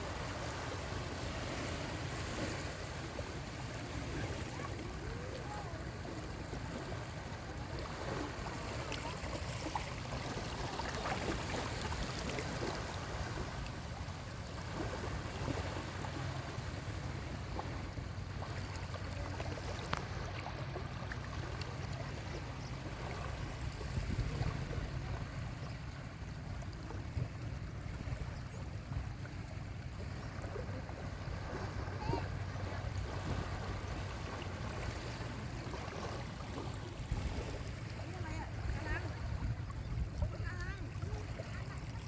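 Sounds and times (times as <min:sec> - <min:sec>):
sea waves washing onto shore: 0:00.0 - 0:42.0.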